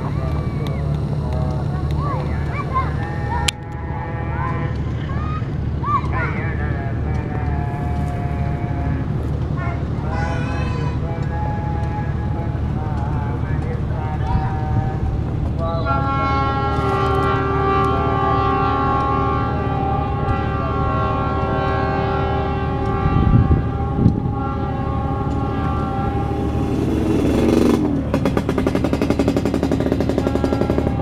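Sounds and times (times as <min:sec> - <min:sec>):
distant trains droning: 0:00.0 - 0:31.0
locomotive rumble: 0:00.0 - 0:31.0.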